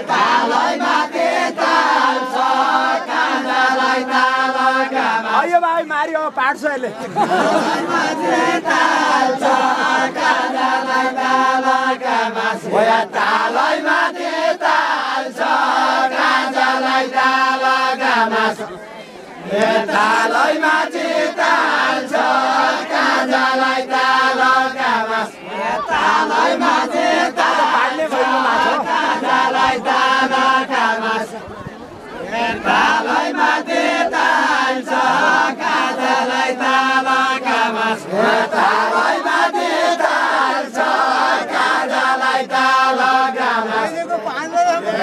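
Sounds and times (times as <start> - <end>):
group singing folk song: 0.0 - 5.7, 7.0 - 45.0.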